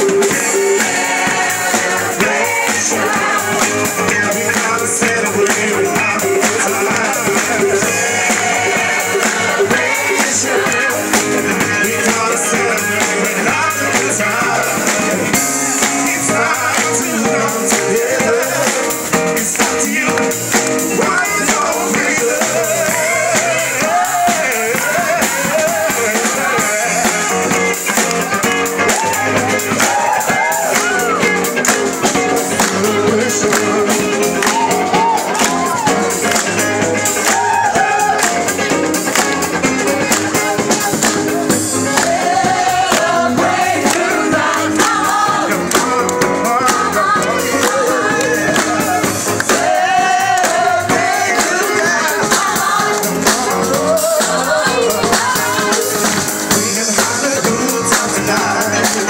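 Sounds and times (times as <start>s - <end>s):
electric guitar: 0.0s - 59.0s
group of people singing: 0.0s - 59.0s
percussion with steady beat: 0.0s - 59.0s.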